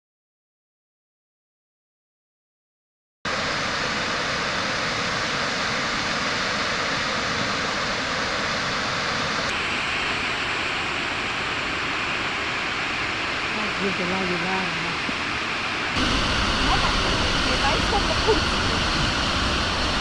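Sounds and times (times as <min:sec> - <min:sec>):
waterfall rushing: 0:03.3 - 0:20.0.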